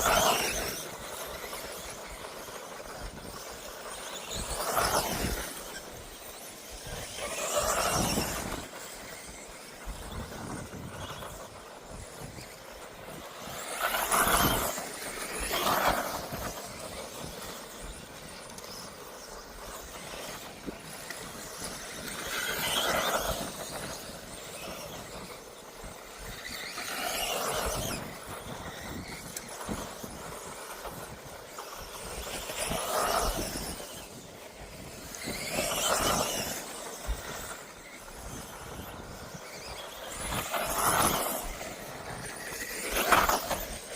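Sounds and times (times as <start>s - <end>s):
rc buggies whining past: 0.0s - 43.9s.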